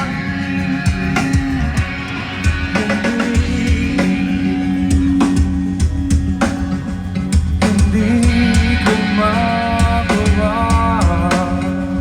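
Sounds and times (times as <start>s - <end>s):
song with drum beat and bass: 0.0s - 12.0s.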